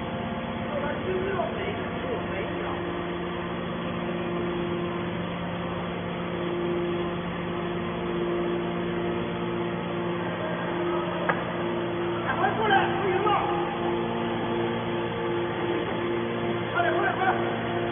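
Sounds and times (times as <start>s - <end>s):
baler motor and pump humming: 0.0s - 17.9s.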